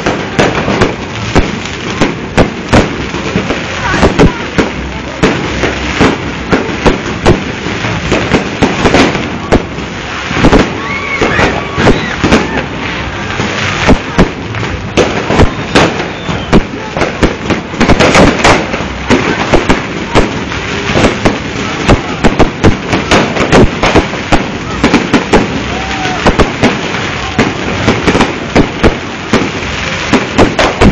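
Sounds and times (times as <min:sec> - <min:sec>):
fireworks bangs and crackles: 0:00.0 - 0:30.9.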